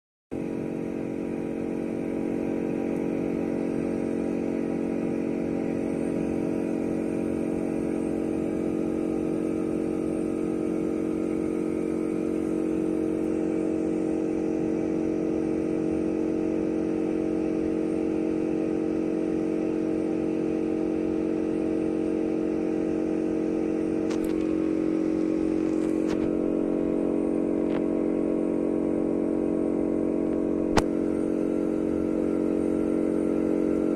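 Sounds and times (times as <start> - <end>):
electronic buzzing drone: 0.4 - 33.9.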